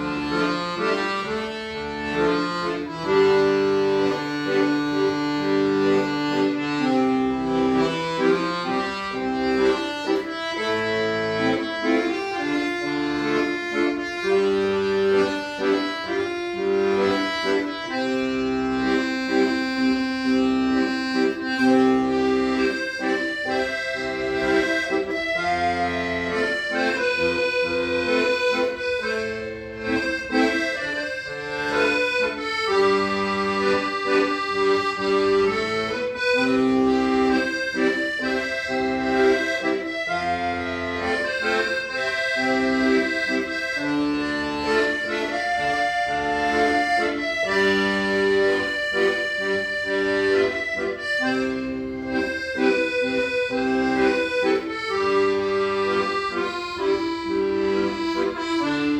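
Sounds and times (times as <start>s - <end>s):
accordion playing slow melody: 0.0s - 58.9s.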